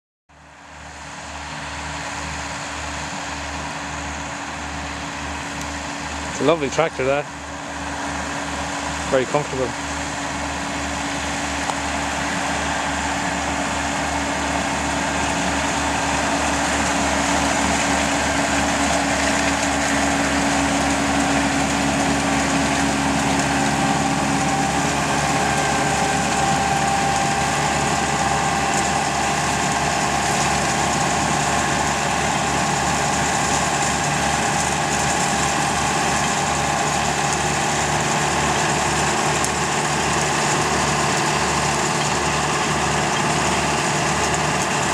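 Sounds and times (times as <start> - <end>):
tractor diesel engine running: 0.3 - 44.9
baler machine whine: 1.3 - 44.9.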